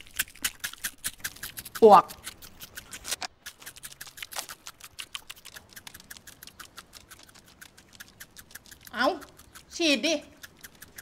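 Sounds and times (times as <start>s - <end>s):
termites gnawing wood: 0.0s - 11.0s.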